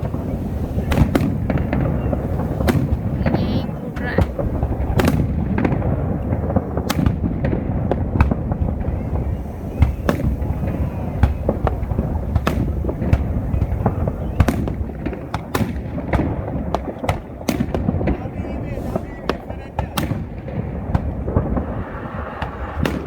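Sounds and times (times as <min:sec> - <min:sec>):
firework cracks: 0:00.0 - 0:23.0
low rumble of firework booms: 0:00.0 - 0:23.0.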